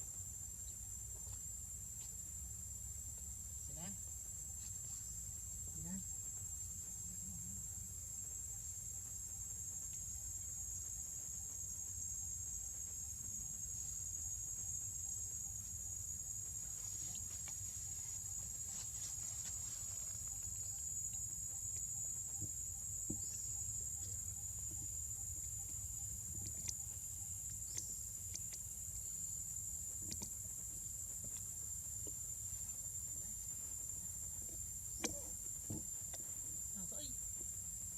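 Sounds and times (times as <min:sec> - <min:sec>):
insect chorus drone: 0:00.0 - 0:37.9.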